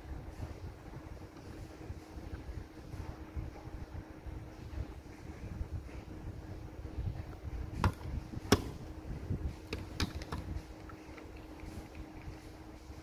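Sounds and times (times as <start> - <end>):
low rumble of handling: 0.0 - 13.0
steady low hum: 0.0 - 13.0.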